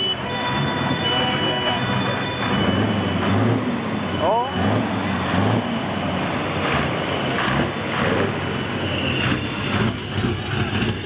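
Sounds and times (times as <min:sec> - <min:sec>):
diesel truck engine with exhaust pulses: 0:00.0 - 0:11.0.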